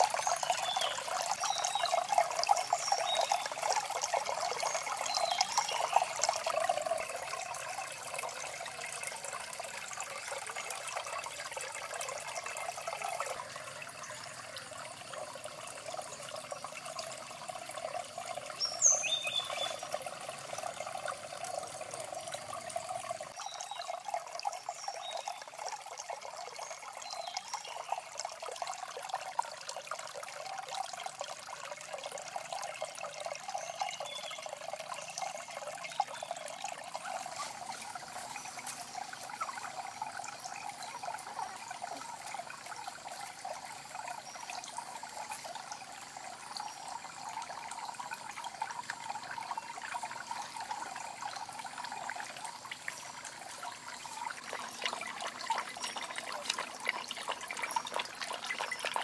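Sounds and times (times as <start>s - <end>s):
water trickling into pond: 0.0s - 59.0s.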